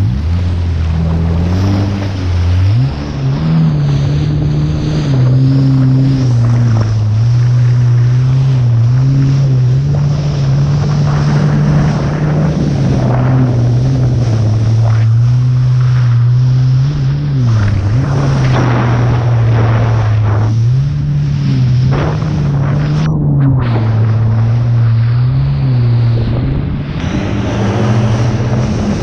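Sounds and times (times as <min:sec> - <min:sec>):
jet ski engine running hard: 0:00.0 - 0:29.0
rushing water: 0:00.0 - 0:29.0.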